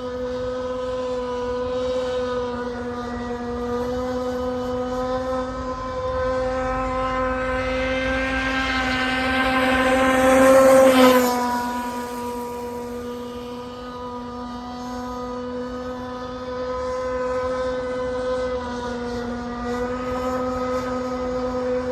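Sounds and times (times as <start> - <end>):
model airplane engine buzzing: 0.0 - 21.9.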